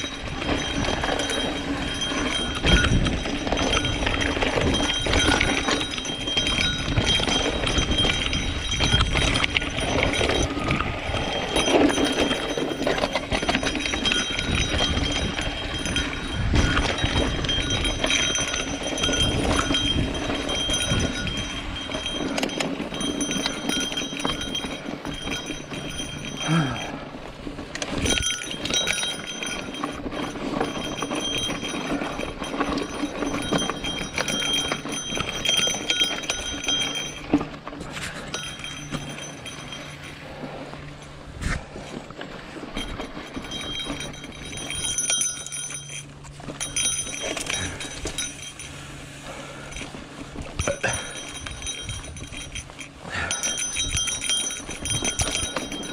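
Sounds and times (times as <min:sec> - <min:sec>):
bike chain and frame rattling: 0:00.0 - 0:55.9.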